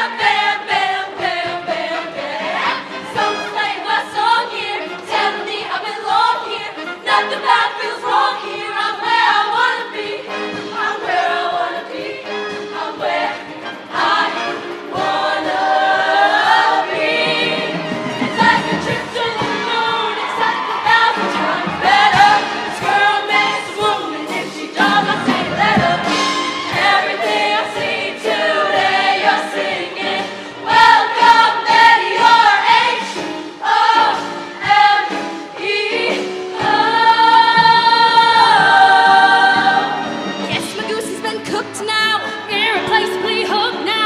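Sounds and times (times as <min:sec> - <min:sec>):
choir singing in harmony: 0:00.0 - 0:40.6
band accompaniment: 0:00.0 - 0:44.0.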